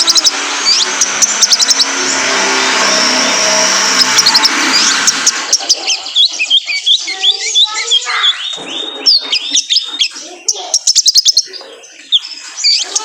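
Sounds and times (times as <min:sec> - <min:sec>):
sunbird song: 0:00.0 - 0:01.9, 0:04.0 - 0:13.0
sharp ticking bird notes: 0:00.0 - 0:02.0, 0:03.5 - 0:13.0.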